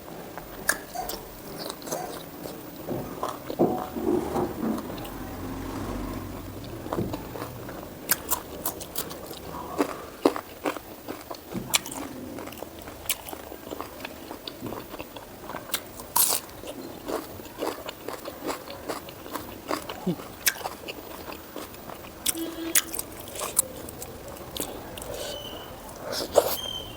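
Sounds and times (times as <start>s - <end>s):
chewing with wet mouth clicks: 0.3s - 5.2s, 6.6s - 26.8s.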